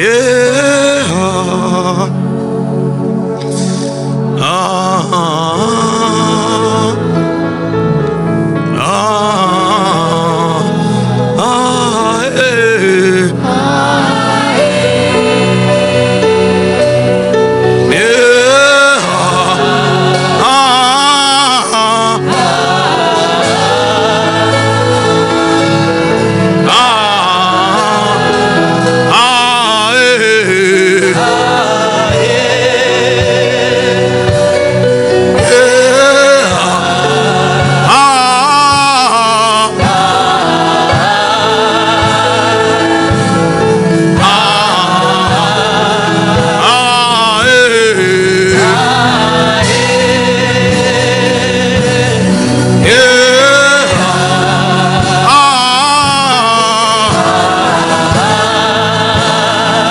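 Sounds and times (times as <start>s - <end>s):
gospel singing with vibrato: 0.0s - 59.9s
sustained chordal backing: 0.0s - 59.9s.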